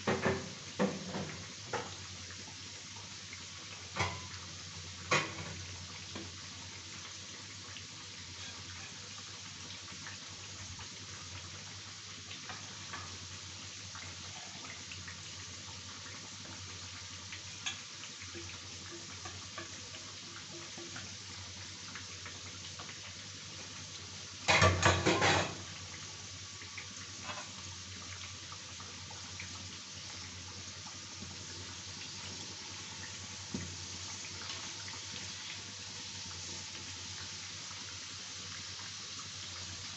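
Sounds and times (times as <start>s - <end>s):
food deep-frying in oil: 0.0s - 39.9s.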